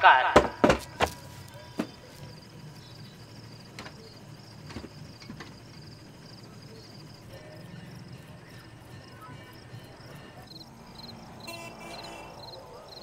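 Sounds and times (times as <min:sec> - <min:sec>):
crickets chirping: 0:00.4 - 0:13.0.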